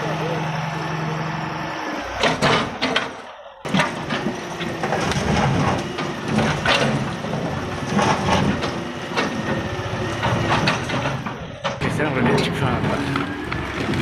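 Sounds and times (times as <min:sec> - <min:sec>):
heavy machine engine running: 0:00.0 - 0:14.0.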